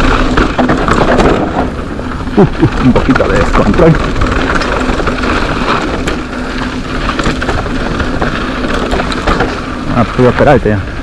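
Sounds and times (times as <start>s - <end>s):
bike rattles and knocks: 0.0s - 11.0s
tyres on loose ground: 0.0s - 11.0s.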